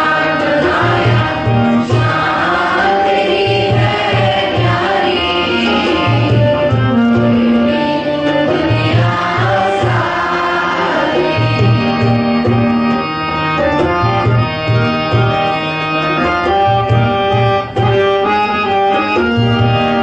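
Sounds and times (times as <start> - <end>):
tabla rhythm: 0.0 - 20.0.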